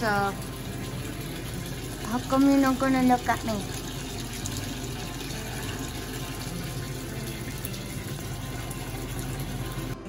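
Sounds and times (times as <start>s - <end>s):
tap water running into bathtub: 0.0s - 10.0s.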